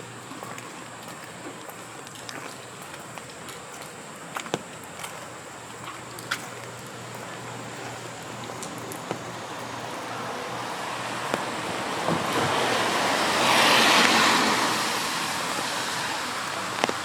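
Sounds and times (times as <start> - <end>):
rain hissing on street: 0.0 - 17.0
raindrops tapping: 0.0 - 17.0.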